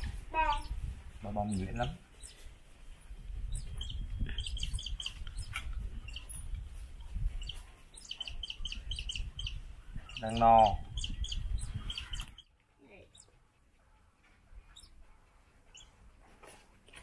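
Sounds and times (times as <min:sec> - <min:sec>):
young birds chirping: 0:00.4 - 0:16.2.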